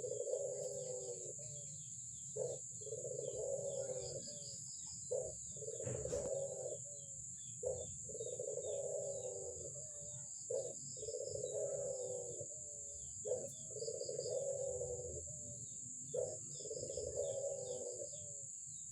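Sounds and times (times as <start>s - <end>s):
dove cooing: 0.0s - 18.9s
small birds chirping: 0.0s - 18.9s.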